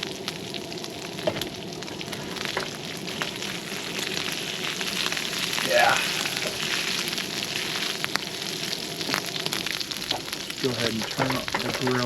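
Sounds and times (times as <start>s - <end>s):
sausage and bacon sizzling: 0.0s - 12.0s.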